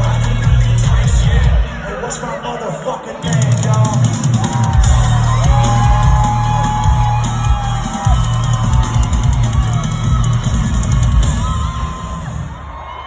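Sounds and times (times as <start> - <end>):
rap music through a pa: 0.0 - 11.6.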